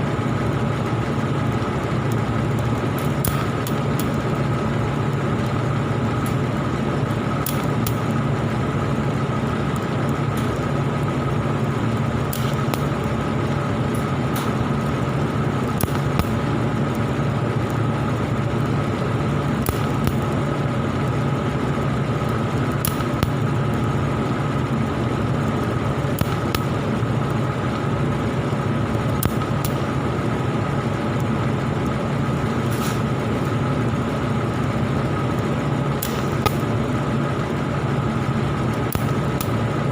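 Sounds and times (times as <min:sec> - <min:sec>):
welding arc buzzing: 0:00.0 - 0:39.9
welding crackles: 0:00.4 - 0:39.9.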